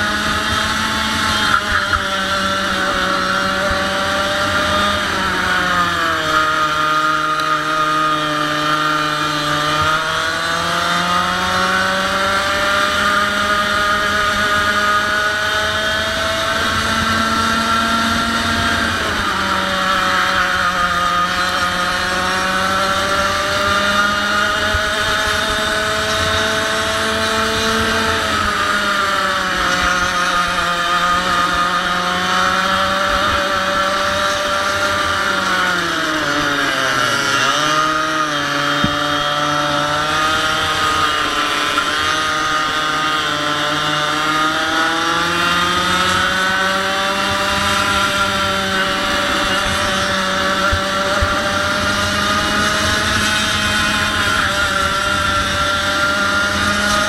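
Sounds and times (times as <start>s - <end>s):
two-stroke kart engine revving: 0.0s - 57.0s.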